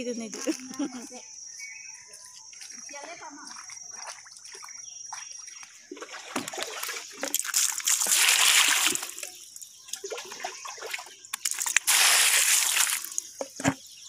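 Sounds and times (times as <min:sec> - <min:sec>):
water splashing and trickling: 0:02.6 - 0:14.0.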